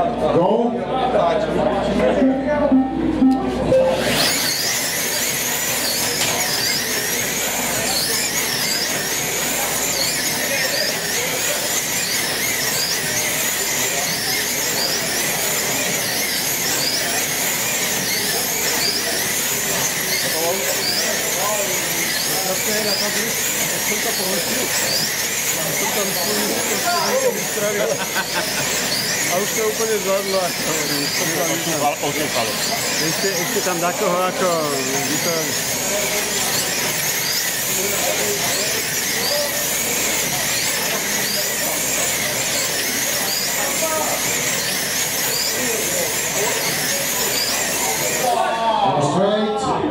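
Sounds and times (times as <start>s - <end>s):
slot car motors whining: 0.0s - 49.1s
background chatter: 0.0s - 49.9s.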